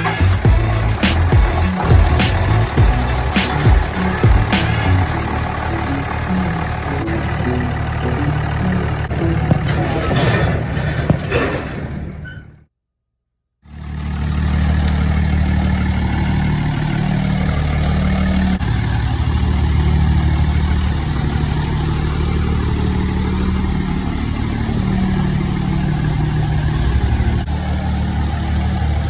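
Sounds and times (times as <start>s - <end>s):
diesel truck engine running: 0.0s - 12.6s, 13.7s - 29.0s.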